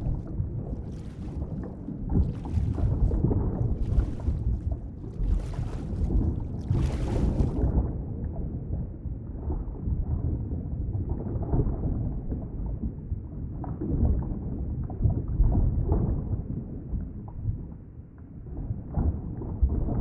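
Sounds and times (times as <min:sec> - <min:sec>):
muffled underwater rumbling: 0:00.0 - 0:20.0.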